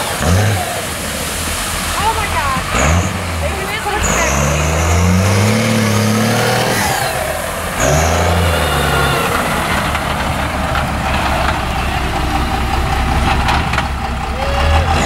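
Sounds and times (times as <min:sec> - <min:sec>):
truck driving slowly on grass: 0:00.0 - 0:15.0
truck engine revving in mud: 0:00.0 - 0:15.0.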